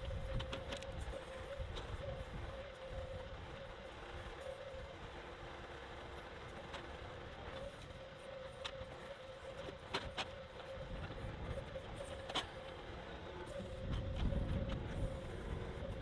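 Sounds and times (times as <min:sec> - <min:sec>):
constant tone: 0:00.0 - 0:16.0.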